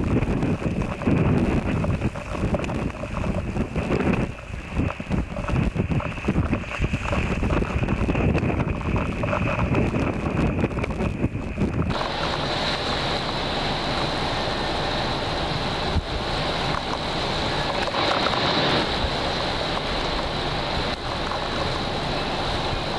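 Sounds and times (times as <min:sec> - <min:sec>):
rushing noise with high whine: 0:00.0 - 0:22.9
wind buffeting microphone: 0:00.0 - 0:22.9.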